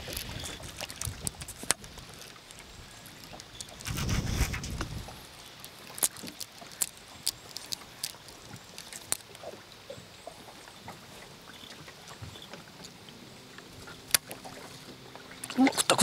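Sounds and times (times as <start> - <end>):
water lapping with ticks and slaps: 0.0 - 16.0.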